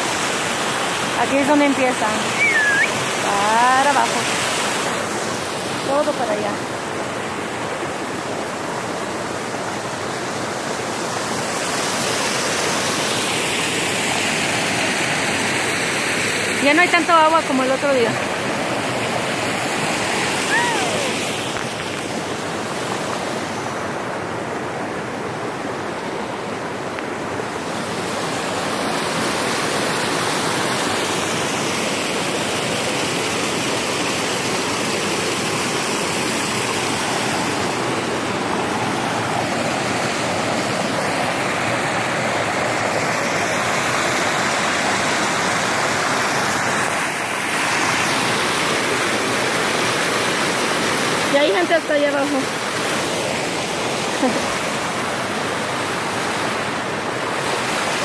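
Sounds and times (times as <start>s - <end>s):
water rushing over rock: 0.0s - 58.0s.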